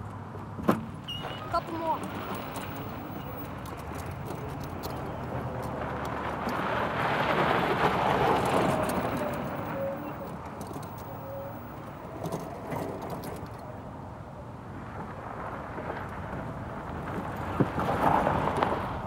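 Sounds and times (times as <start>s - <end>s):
golf cart driving over gravel: 0.7s - 13.7s, 14.8s - 19.0s.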